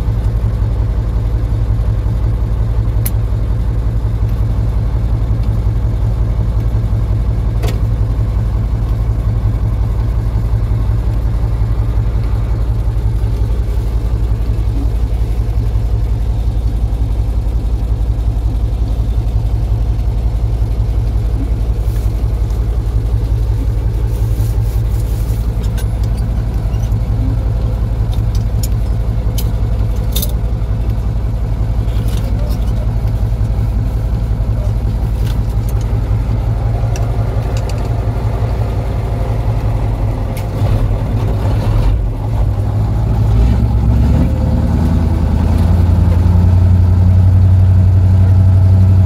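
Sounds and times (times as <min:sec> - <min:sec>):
vehicle engine droning: 0:00.0 - 0:49.0.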